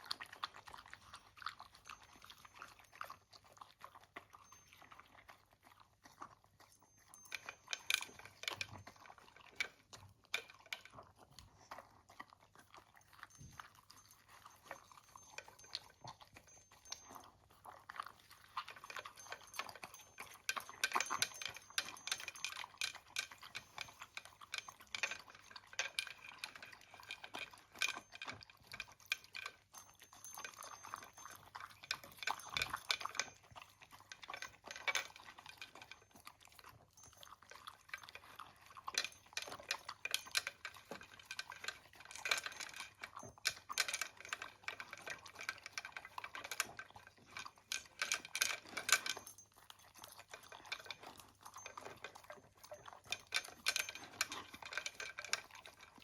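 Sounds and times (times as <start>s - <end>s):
pet crunching food from bowl: 0.0s - 56.0s.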